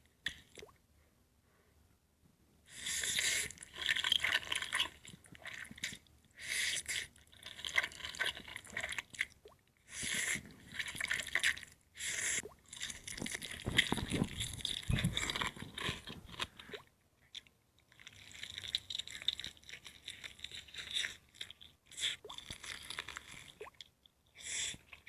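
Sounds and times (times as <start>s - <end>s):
wet eating mouth noises: 2.7s - 25.0s.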